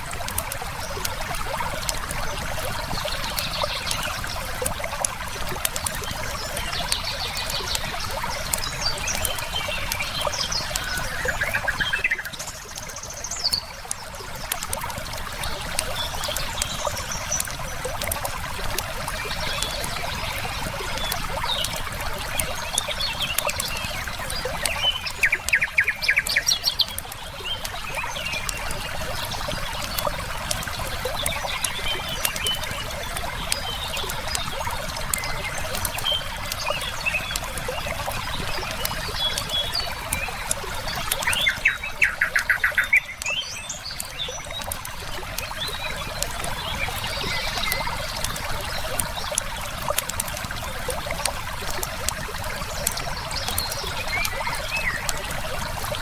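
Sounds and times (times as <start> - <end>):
river flowing: 0.0 - 56.0
wood fire crackling: 0.0 - 56.0
songbirds chirping: 0.7 - 56.0.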